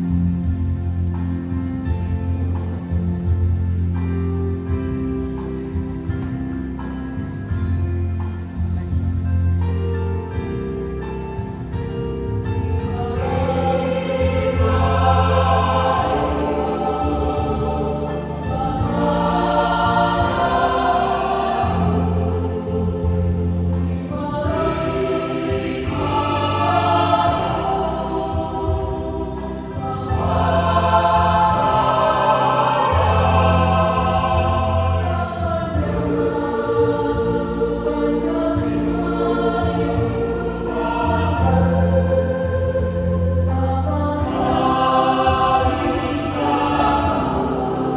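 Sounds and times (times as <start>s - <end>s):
choir singing a hymn: 0.0s - 47.9s
held low bass notes: 0.0s - 47.9s.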